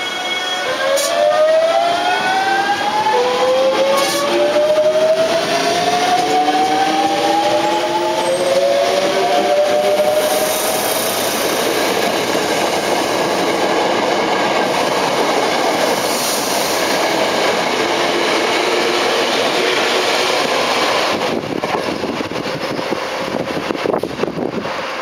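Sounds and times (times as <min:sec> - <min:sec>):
electric train rumbling on rails: 0:00.0 - 0:25.0.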